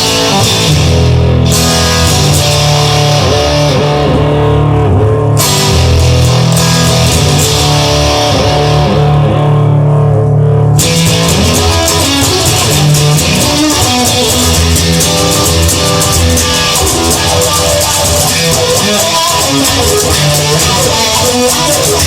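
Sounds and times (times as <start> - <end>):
instrumental rock music: 0.0 - 22.0.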